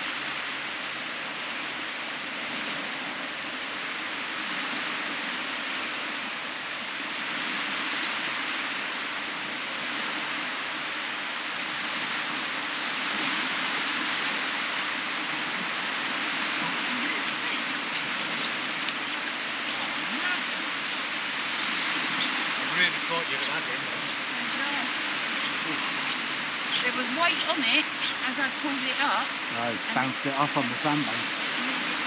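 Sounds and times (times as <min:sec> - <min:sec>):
waves washing on sandy beach: 0:00.0 - 0:32.0.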